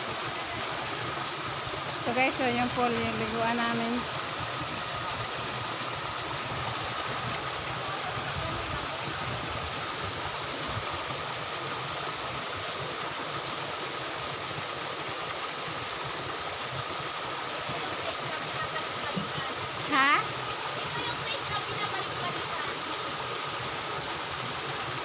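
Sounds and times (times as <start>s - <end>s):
water rushing in a stream: 0.0s - 25.0s.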